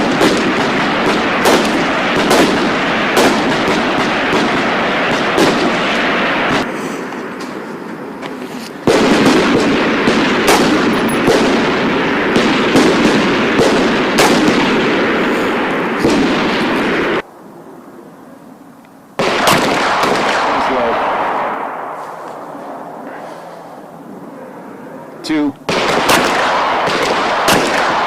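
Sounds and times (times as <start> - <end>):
gunshots with rolling echo: 0.0 - 8.2, 8.8 - 17.3, 19.2 - 28.0.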